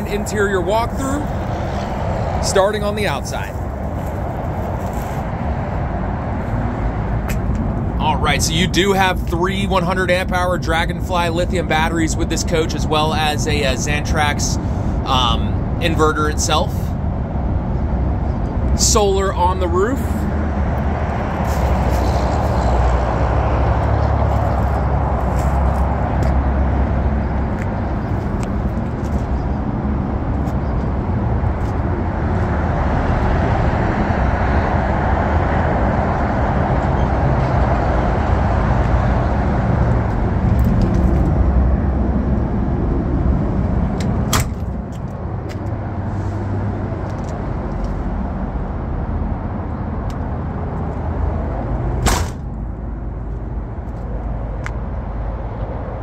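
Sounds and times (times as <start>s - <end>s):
engine running with low hum: 0.0s - 56.0s.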